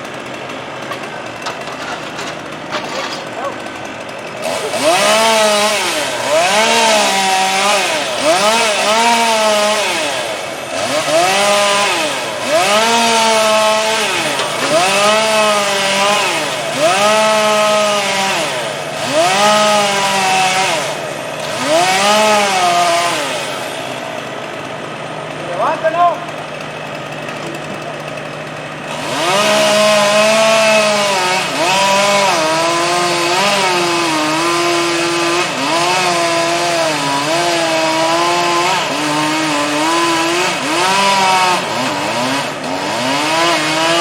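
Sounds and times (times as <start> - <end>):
chainsaw revving: 0.0 - 44.0.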